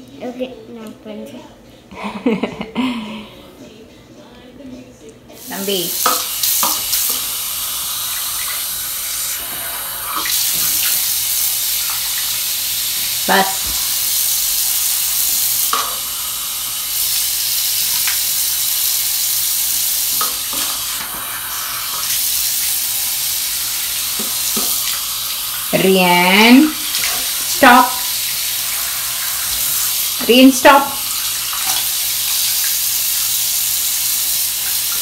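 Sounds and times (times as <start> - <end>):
faucet running into a cup: 5.4 - 35.0.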